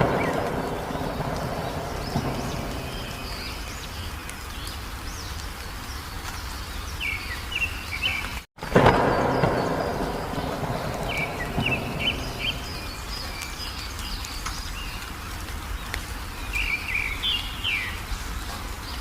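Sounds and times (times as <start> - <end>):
small birds chirping: 0.0 - 19.0
steady rain-like hiss: 0.0 - 19.0.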